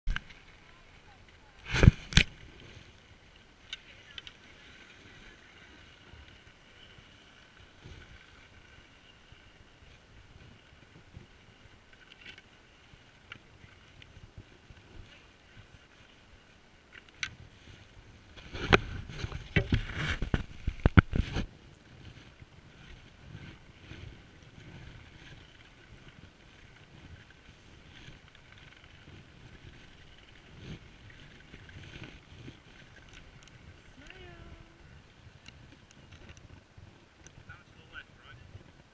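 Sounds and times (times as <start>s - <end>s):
open-air ski-slope ambience: 0.1s - 38.9s
wind rumble on microphone: 0.1s - 38.9s.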